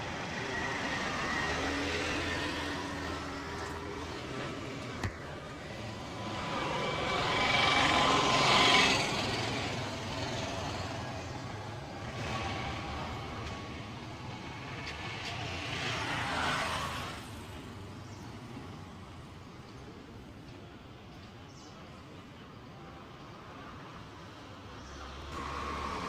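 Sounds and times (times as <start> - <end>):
traffic rumble: 0.0 - 26.0
vehicles passing by: 0.0 - 26.0.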